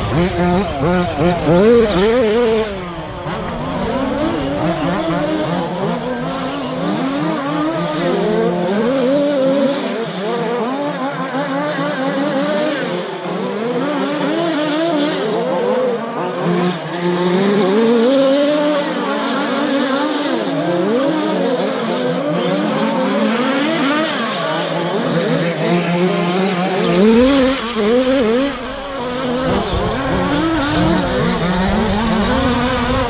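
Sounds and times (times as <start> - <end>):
rc truck motors whining: 0.0 - 33.0.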